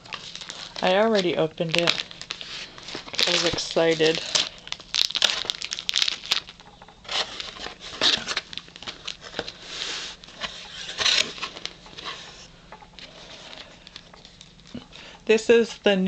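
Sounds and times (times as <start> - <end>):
paper rustling and crinkling: 0.0 - 14.8.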